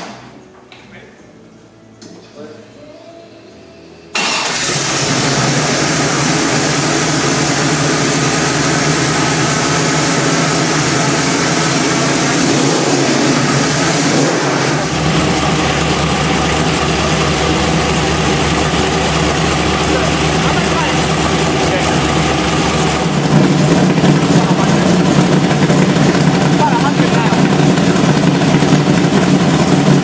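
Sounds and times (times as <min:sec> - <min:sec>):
race engine starting and idling: 0:04.1 - 0:30.0.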